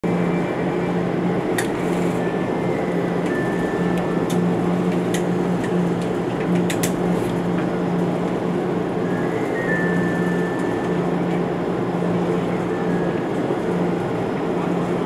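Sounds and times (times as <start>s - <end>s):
ferry engine drone: 0.0s - 15.0s.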